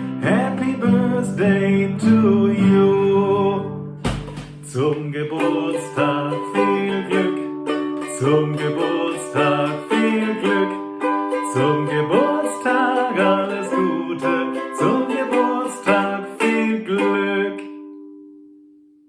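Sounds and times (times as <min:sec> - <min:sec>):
acoustic guitar strumming chords: 0:00.0 - 0:18.2
ukulele strumming chords: 0:00.0 - 0:18.5.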